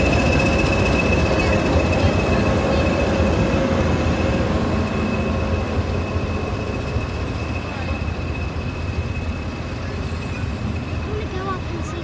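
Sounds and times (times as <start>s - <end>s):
diesel locomotive engine whine: 0.0s - 12.0s
train carriages rumbling: 0.0s - 12.0s.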